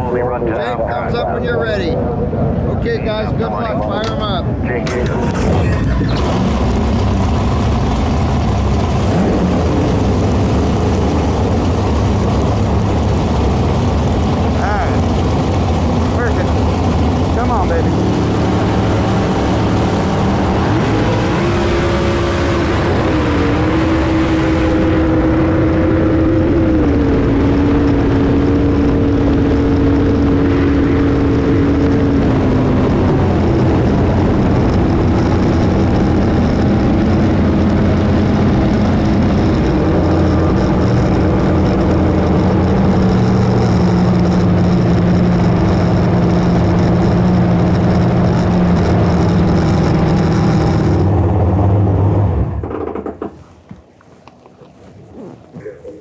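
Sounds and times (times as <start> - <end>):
lower steady engine tone: 0.0 - 54.4
jet boat engine roaring: 0.0 - 55.6.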